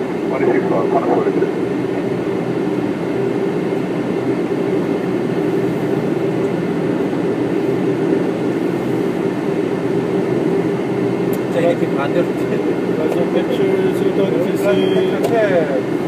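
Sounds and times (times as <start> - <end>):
aircraft cockpit rumble and hiss: 0.0 - 16.0.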